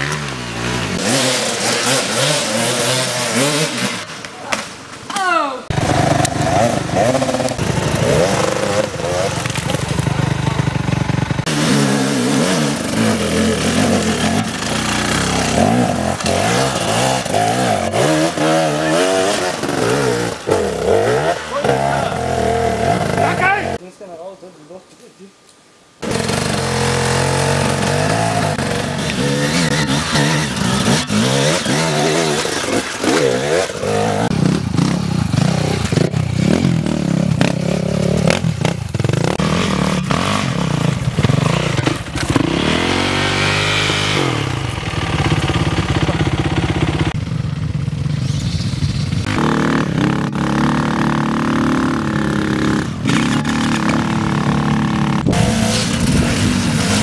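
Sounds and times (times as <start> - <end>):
dirt bike engines revving: 0.0 - 23.8, 26.0 - 57.0.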